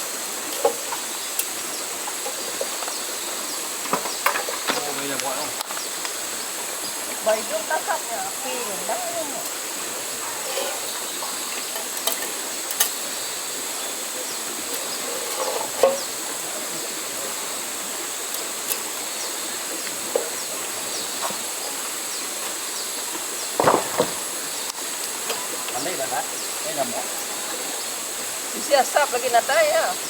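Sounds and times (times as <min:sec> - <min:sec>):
flowing river water: 0:00.0 - 0:30.0
high insect drone: 0:00.0 - 0:30.0.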